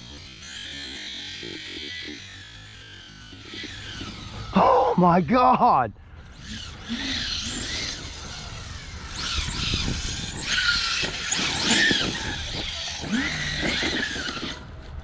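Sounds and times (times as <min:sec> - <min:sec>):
electric motor whining: 0:00.0 - 0:05.3, 0:06.0 - 0:15.0
tyres rumbling: 0:00.0 - 0:15.0.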